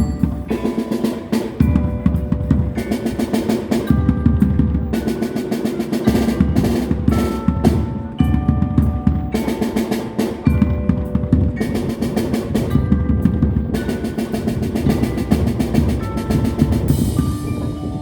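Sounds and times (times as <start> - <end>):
drums in rapid strokes: 0.0 - 18.0
ringing pitched percussion tones: 0.0 - 18.0.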